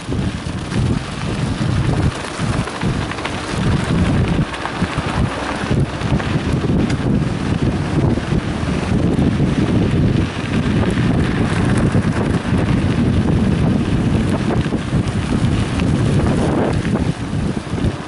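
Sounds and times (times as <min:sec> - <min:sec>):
small rattles and clicks: 0:00.0 - 0:18.0
tyres rolling over gravel: 0:00.0 - 0:18.0
wind rushing over microphone: 0:00.0 - 0:18.0.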